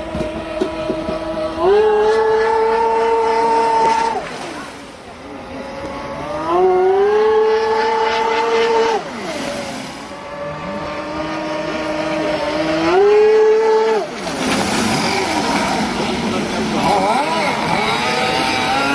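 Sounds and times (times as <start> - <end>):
model engine revving: 0.0 - 18.9.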